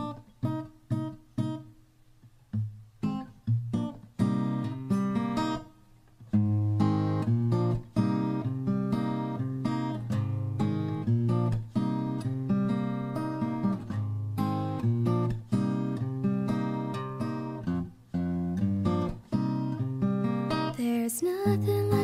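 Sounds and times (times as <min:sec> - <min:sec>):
acoustic guitar playing: 0:00.0 - 0:22.0.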